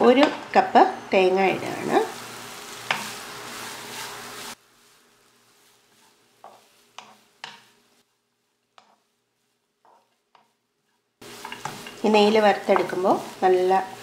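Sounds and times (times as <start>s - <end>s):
coconut sizzling in a pan: 0.1s - 14.0s
spatula scraping a pan: 2.7s - 14.0s.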